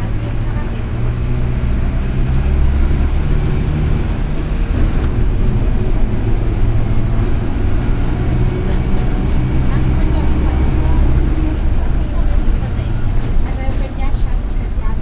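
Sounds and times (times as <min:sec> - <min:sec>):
diesel bus engine rumbling: 0:00.0 - 0:15.0.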